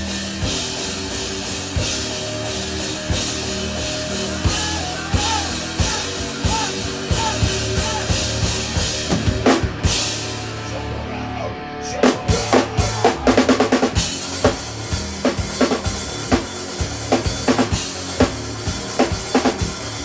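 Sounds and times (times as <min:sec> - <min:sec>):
hard drum strokes: 0:00.0 - 0:11.1, 0:12.0 - 0:20.0
live instrumental rock band: 0:00.0 - 0:20.0.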